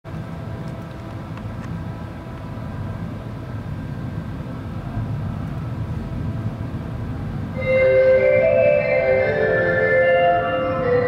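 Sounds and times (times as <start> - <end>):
metro station rumble and hum: 0.1 - 11.0.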